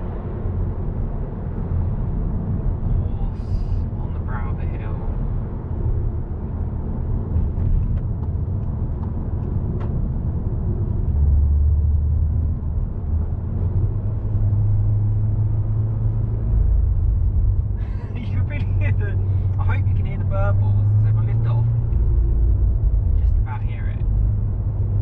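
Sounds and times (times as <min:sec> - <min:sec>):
car engine droning: 0:00.0 - 0:25.0
road noise: 0:00.0 - 0:25.0.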